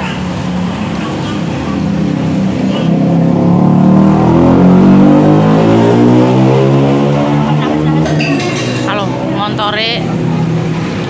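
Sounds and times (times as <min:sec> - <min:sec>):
motorcycle engine passing: 0:00.5 - 0:11.0.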